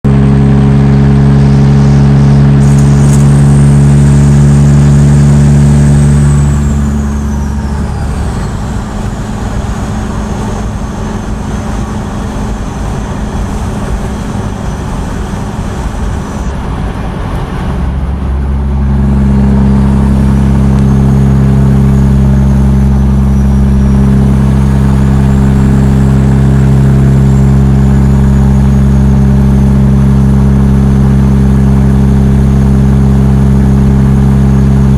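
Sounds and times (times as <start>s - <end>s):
towed vehicle drone: 0.0s - 34.9s.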